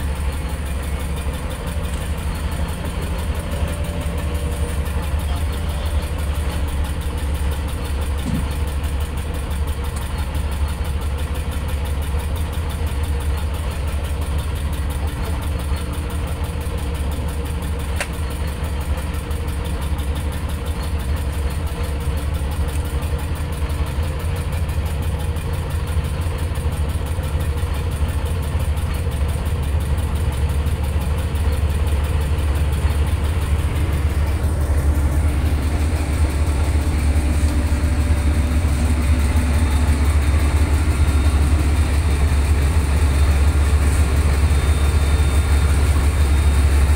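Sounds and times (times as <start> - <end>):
boat engine idling: 0.0 - 46.9.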